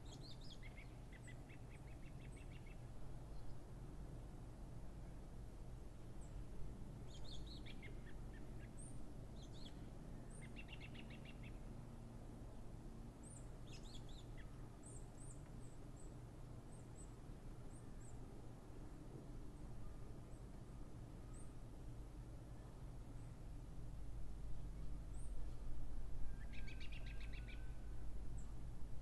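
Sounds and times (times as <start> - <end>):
low steady background rumble: 0.0 - 29.0.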